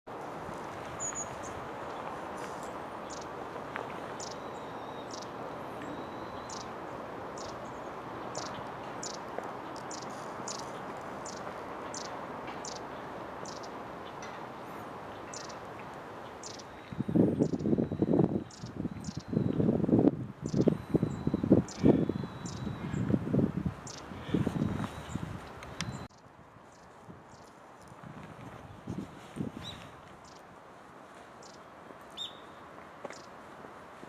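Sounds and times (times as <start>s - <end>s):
low rush of background noise: 0.1s - 34.0s.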